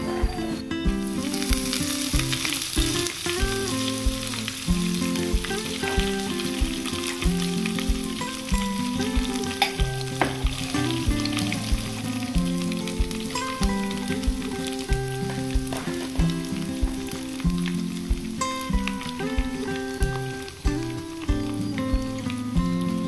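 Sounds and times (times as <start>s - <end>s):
curry leaves sizzling in oil: 0.0s - 23.0s.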